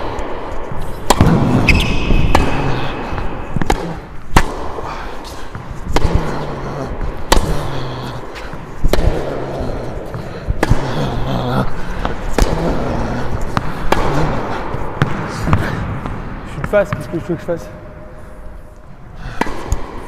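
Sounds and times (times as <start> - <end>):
tennis ball struck by racquets: 0.0 - 11.0, 12.0 - 17.1, 19.4 - 20.0.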